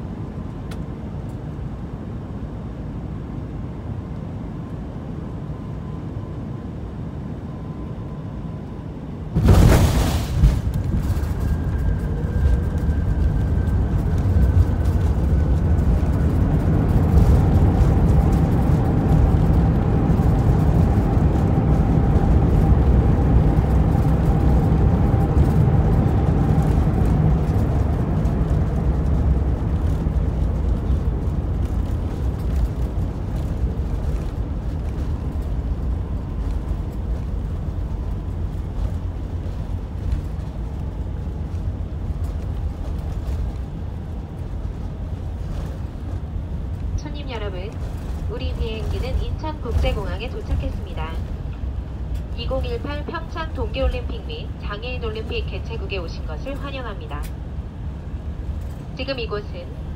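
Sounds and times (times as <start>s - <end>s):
aircraft engine and airflow noise: 0.0s - 59.9s
airliner rolling rumble: 0.0s - 59.9s
faint whine: 0.0s - 59.9s.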